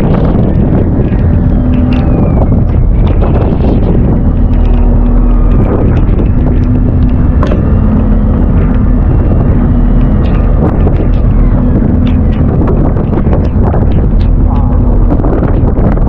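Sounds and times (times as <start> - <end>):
boat motor hum: 0.0 - 16.0
strong wind on microphone: 0.0 - 16.0.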